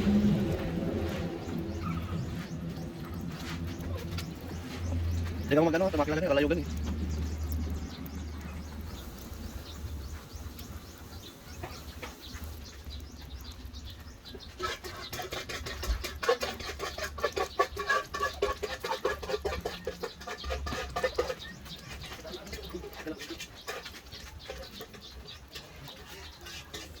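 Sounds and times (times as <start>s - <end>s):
fast clucking bird calls: 0.4s - 27.0s.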